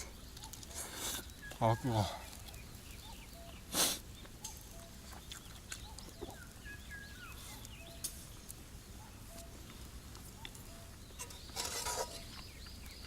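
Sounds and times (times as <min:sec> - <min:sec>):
small birds chirping: 0:00.0 - 0:13.0
whistled bird calls: 0:00.0 - 0:13.0.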